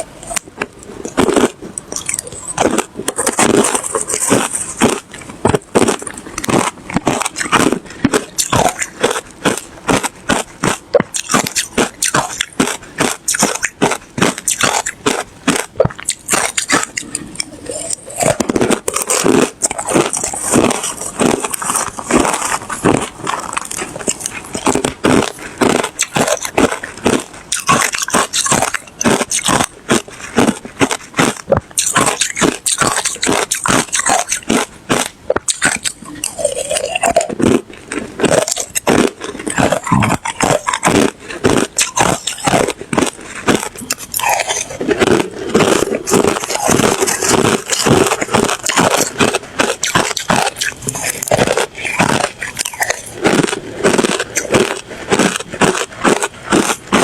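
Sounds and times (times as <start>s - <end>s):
person crunching ice: 0.0s - 57.0s.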